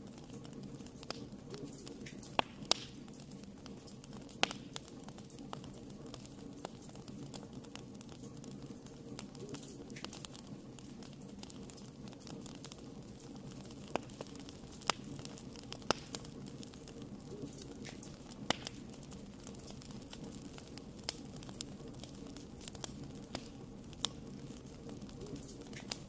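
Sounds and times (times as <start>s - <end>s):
fire crackling: 0.0s - 26.0s
fire flames rushing: 0.0s - 26.0s
fire popping: 0.0s - 26.0s.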